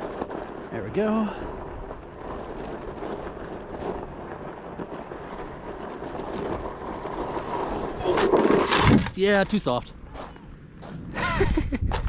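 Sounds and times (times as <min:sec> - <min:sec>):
wind on microphone: 0:00.0 - 0:09.2, 0:10.9 - 0:12.0
tire churning sand: 0:00.0 - 0:10.1.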